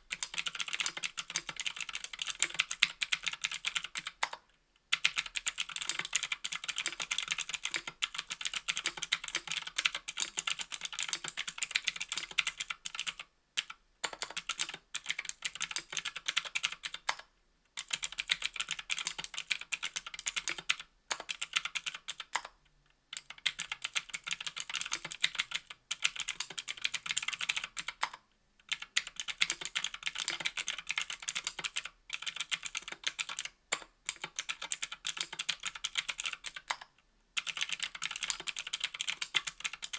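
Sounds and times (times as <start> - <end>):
clicky keyboard typing: 0.1 - 4.4, 5.0 - 39.9.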